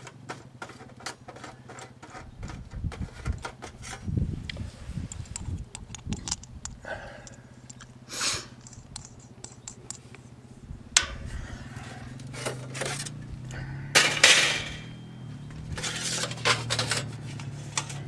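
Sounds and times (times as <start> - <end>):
metal clinks and scrapes: 0.0 - 4.1, 5.0 - 10.4, 11.8 - 13.3, 13.9 - 18.0
metal rattle: 0.0 - 4.2, 5.0 - 18.0
motorcycle engines humming: 0.0 - 18.0.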